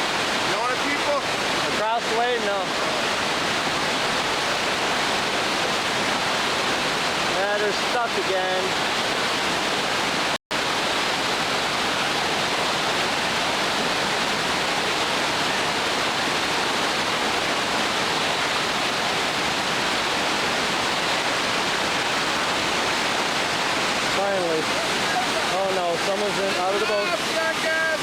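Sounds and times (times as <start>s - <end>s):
whitewater river rapids: 0.0s - 28.0s.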